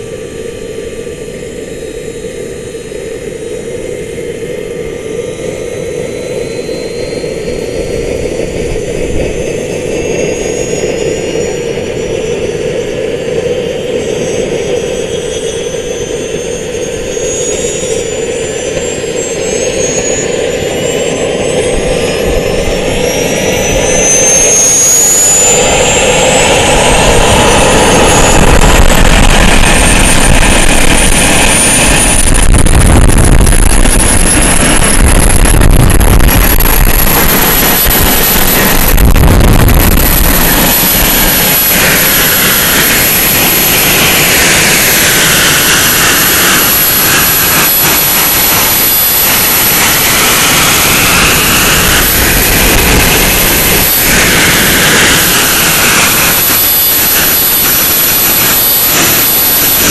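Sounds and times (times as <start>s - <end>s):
model turbojet engine whine: 0.0s - 59.9s.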